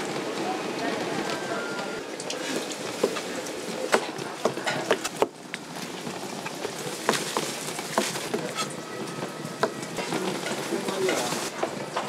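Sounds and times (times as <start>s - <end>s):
market stall background noise: 0.0s - 12.0s.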